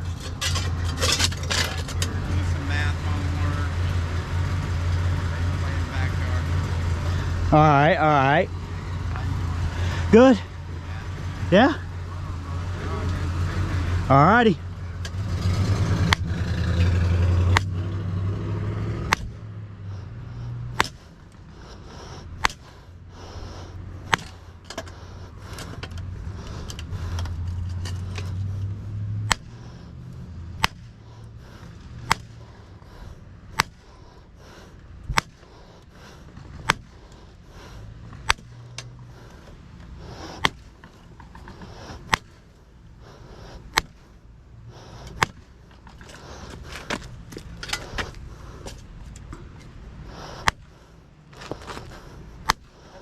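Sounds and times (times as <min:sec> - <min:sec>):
vehicle engine rumble: 0:00.0 - 0:53.0.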